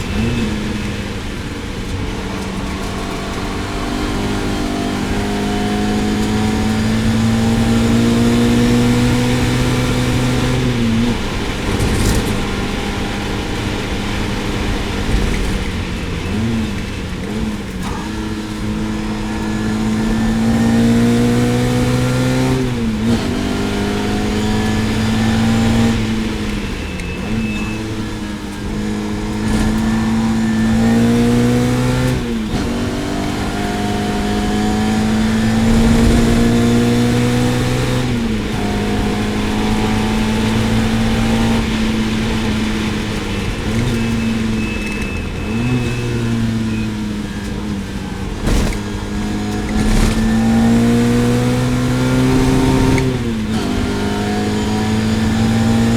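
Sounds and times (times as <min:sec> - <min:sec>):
race car engine shifting gears: 0:00.0 - 0:55.9.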